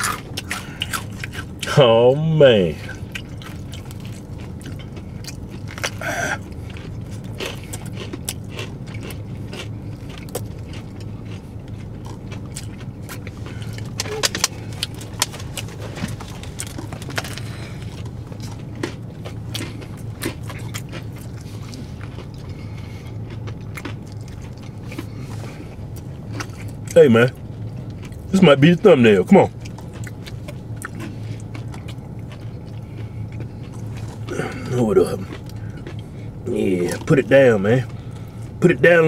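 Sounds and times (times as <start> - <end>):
chewing and crunching: 0.0 - 39.0
steady low hum: 0.0 - 39.0.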